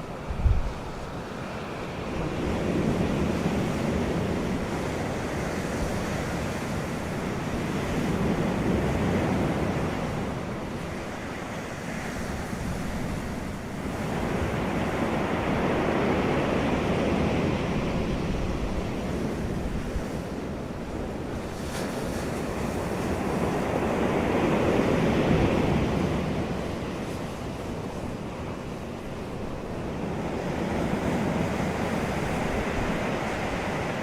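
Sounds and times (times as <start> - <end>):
wind rushing across microphone: 0.0 - 34.0.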